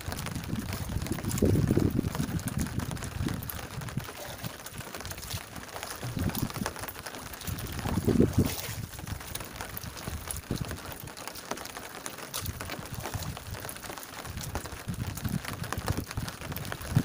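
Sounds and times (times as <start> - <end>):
water drips: 0.0 - 17.0
wind rumbling on microphone: 0.0 - 17.0
water sloshing around boat: 0.6 - 14.8.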